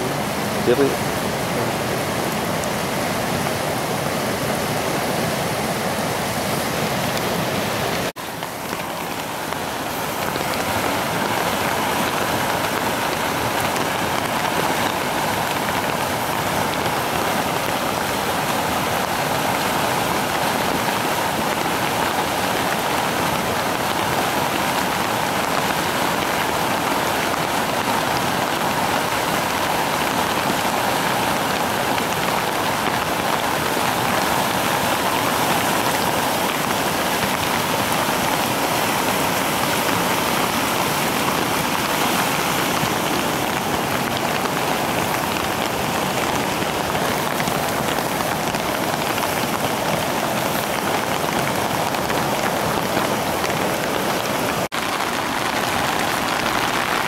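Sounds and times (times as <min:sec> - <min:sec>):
flooded river rushing: 0:00.0 - 0:57.0
rain falling: 0:00.0 - 0:57.0.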